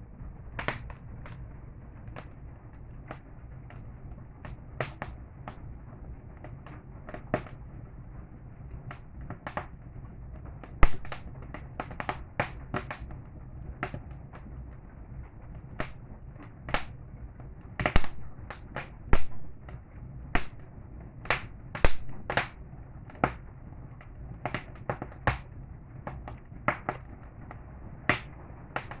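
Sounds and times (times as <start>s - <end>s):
campfire wood crackling: 0.0s - 29.0s
low steady rumble: 0.0s - 29.0s.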